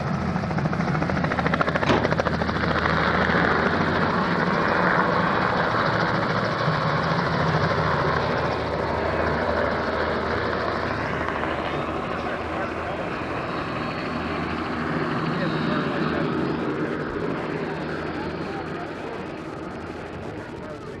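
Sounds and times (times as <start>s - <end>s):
helicopter engine drone: 0.0s - 21.0s
helicopter rotor blades chopping: 0.0s - 21.0s.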